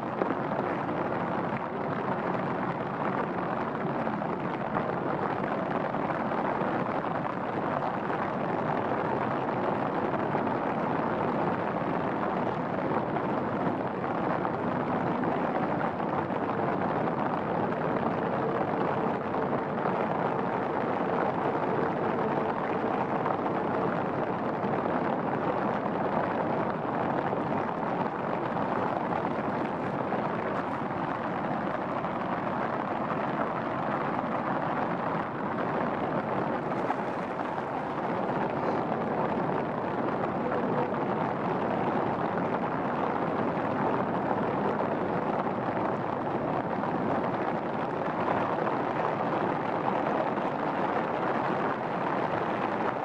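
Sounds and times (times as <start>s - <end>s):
rain falling on pond and trees: 0.0s - 53.0s.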